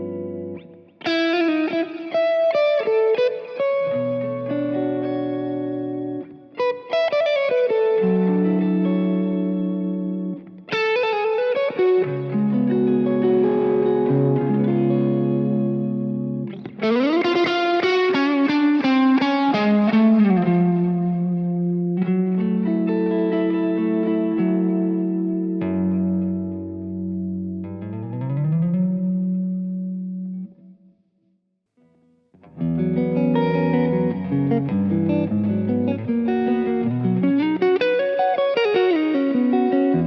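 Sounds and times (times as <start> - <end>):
electric guitar with pitch bends: 0.0 - 30.9, 31.8 - 40.0.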